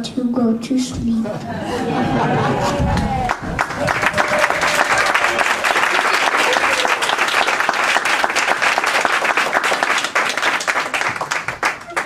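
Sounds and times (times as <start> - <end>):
audience clapping: 2.1 - 12.0.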